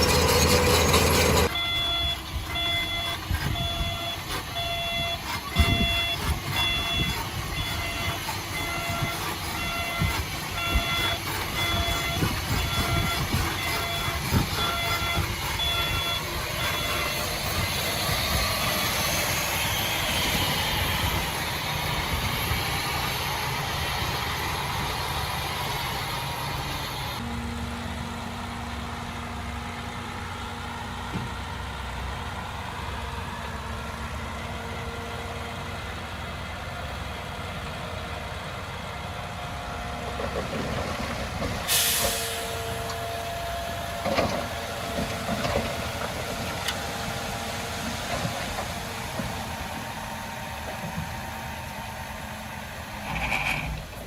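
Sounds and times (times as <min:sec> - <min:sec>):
heavy machinery diesel engine: 0:00.0 - 0:54.0.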